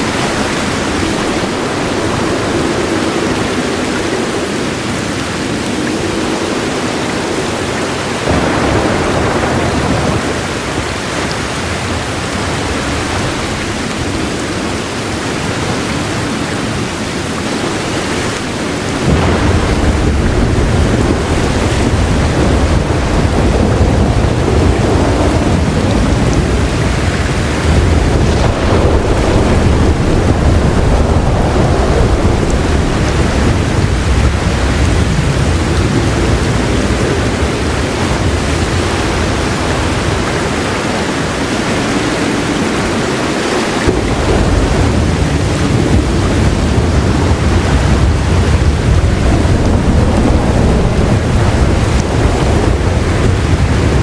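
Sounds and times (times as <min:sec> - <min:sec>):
heavy rain falling: 0:00.0 - 0:54.0
rolling thunder rumble: 0:00.0 - 0:54.0.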